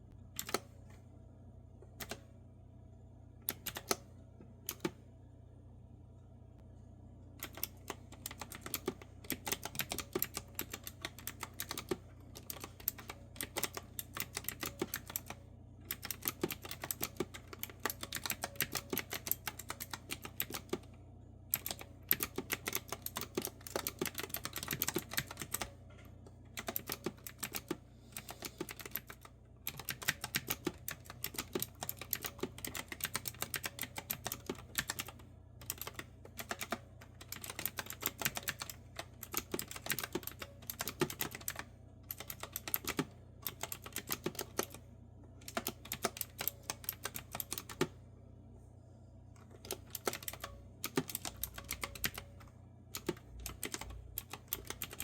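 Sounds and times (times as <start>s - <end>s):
typing on mechanical keyboard: 0.4s - 0.6s, 3.5s - 4.0s, 7.4s - 20.9s, 21.5s - 25.7s, 26.5s - 44.8s, 45.4s - 48.0s, 49.4s - 55.0s.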